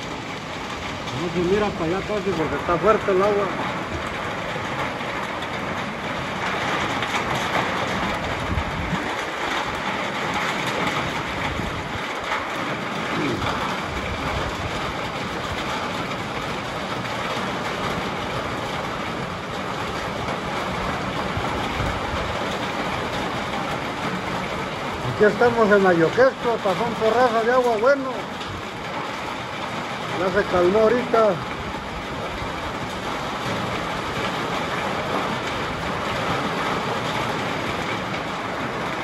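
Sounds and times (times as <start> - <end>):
wind rumbling on microphone: 0.0 - 25.6, 31.4 - 39.0
rain on rooftops: 0.0 - 39.0.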